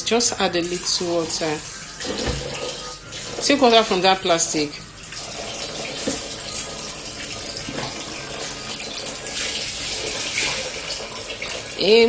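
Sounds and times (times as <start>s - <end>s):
water pouring into a bowl: 0.6s - 11.8s.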